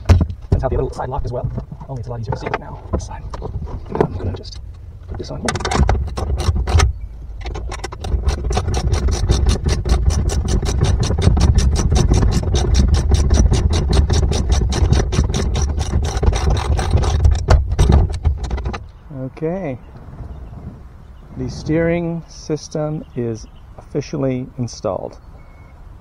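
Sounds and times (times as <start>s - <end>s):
steady low rumble: 0.0s - 24.6s.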